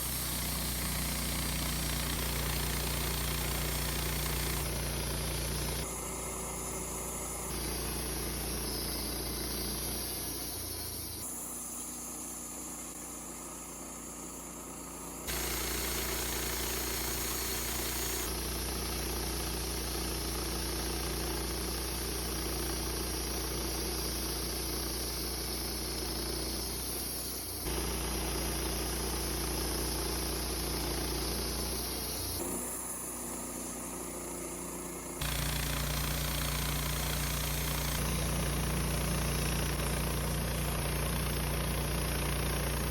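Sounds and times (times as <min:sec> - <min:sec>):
sawmill engine droning: 0:00.0 - 0:42.9.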